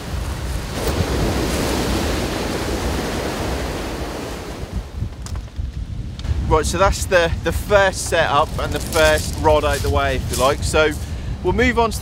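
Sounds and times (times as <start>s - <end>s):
waves breaking on beach: 0.0s - 5.0s, 6.4s - 11.6s
wind buffeting microphone: 0.0s - 12.0s.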